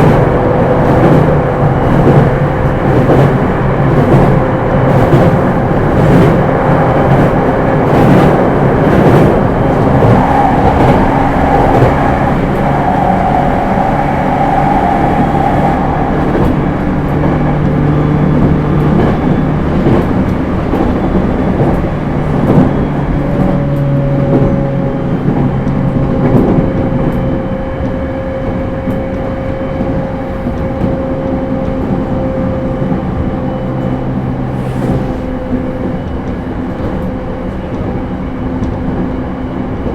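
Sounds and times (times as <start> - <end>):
rail-joint clicks: 0.0 - 32.2
wheel-on-rail noise: 0.0 - 39.9.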